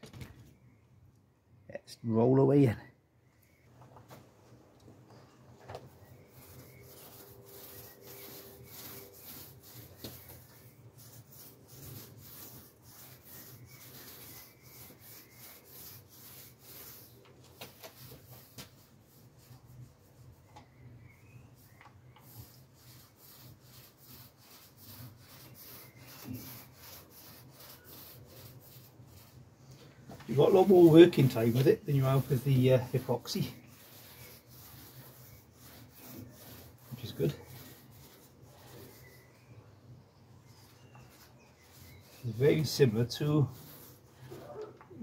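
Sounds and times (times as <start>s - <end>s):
foam roller rubbing on panel: 5.7s - 39.6s, 40.4s - 45.0s.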